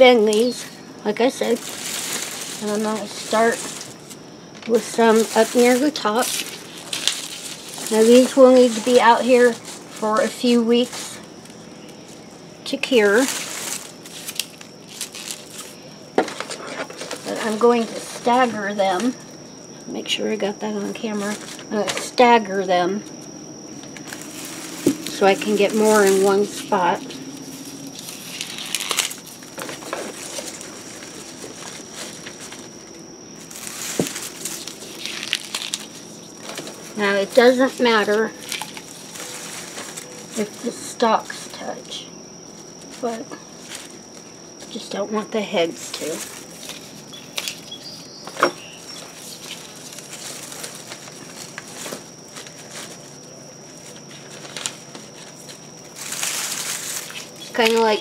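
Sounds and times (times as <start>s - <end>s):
dry leaves rustling on paper: 0.0s - 19.4s, 20.3s - 58.0s
faint high whine: 0.0s - 58.0s.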